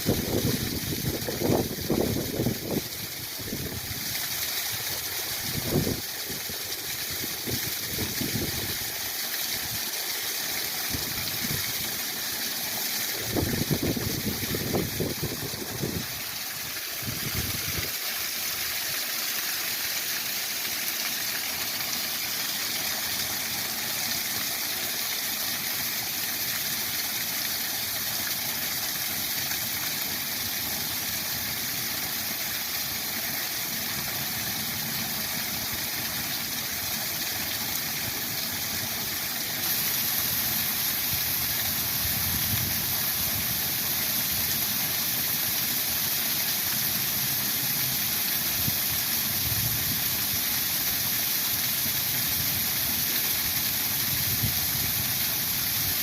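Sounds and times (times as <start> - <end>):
waterfall rushing: 9.5 - 31.5, 32.1 - 56.0.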